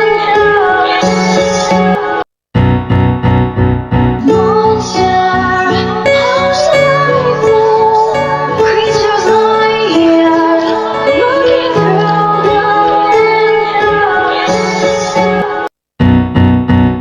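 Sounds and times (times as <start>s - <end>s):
pop song with female vocal: 0.0s - 2.2s, 4.2s - 15.7s.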